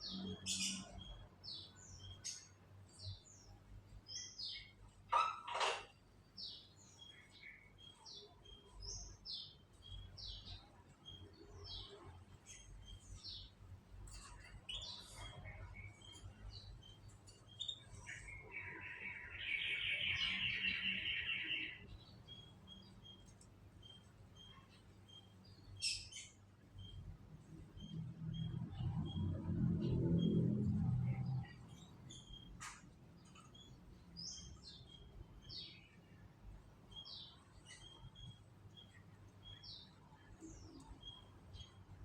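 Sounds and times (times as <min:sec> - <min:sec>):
canaries chirping: 0:00.0 - 0:42.0.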